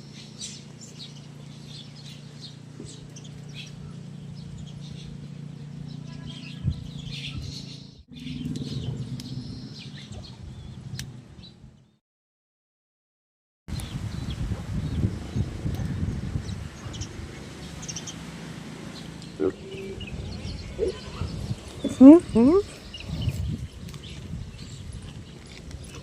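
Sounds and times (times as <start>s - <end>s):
steady low hum: 0.0s - 11.9s, 13.9s - 26.0s
small birds chirping: 0.0s - 12.0s, 13.7s - 26.0s.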